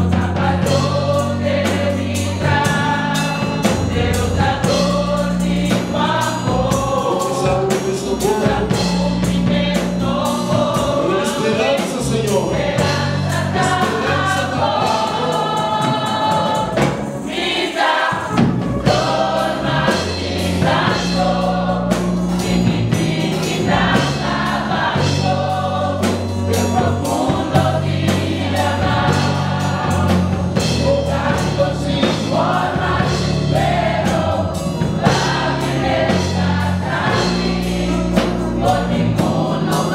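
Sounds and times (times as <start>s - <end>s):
low bass line: 0.0s - 17.2s, 18.4s - 39.9s
choir singing a hymn: 0.0s - 39.9s.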